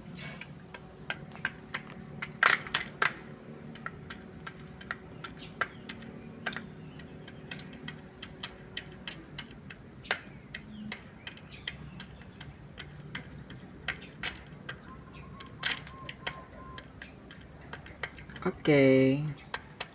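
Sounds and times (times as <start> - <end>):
bird pecking at grains: 0.0 - 19.9.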